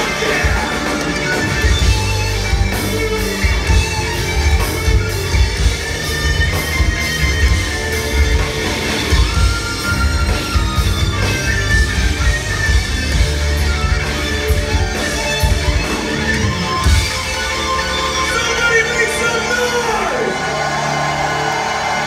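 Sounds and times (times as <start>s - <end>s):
live metal band playing: 0.0s - 22.0s.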